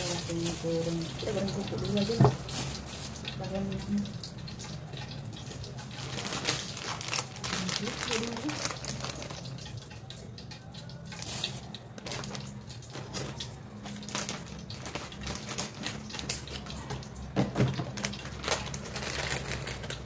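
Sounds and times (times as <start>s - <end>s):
frying oil crackling and popping: 0.0s - 20.0s.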